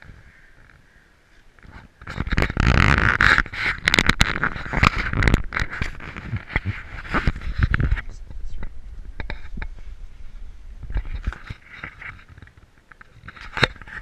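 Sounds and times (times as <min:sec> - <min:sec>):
rubbing and rustling on camera: 0:01.5 - 0:14.0.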